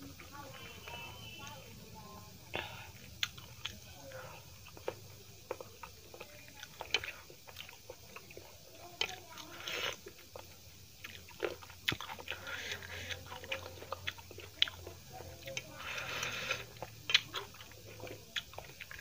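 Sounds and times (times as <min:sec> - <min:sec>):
food squishing on a steel plate: 0:00.2 - 0:19.0
wet chewing and lip smacks: 0:02.5 - 0:19.0.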